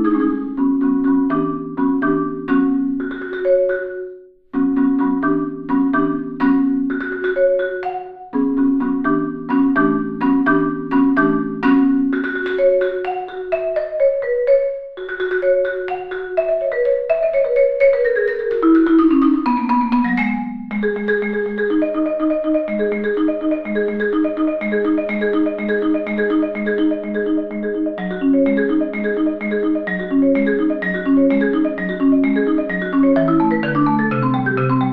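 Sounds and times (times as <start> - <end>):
marimba played with mallets: 0.0 - 34.9.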